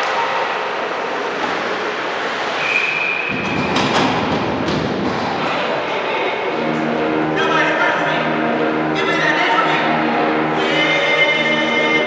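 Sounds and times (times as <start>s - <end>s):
crowd and court din: 0.0s - 10.6s.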